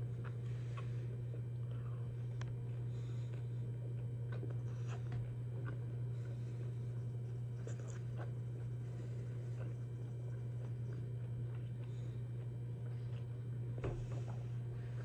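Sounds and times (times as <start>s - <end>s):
person chewing: 0.0s - 15.0s
steady low hum: 0.0s - 15.0s.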